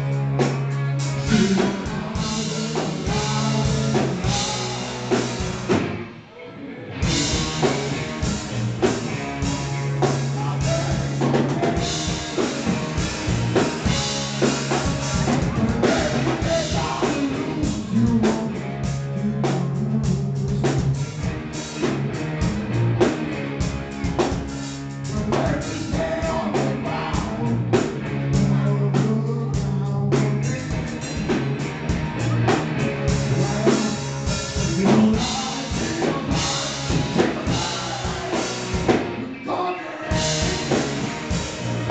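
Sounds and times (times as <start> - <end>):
drum kit steady beat: 0.0 - 6.0, 7.0 - 39.2, 40.1 - 41.9
distorted electric guitars: 0.0 - 41.9.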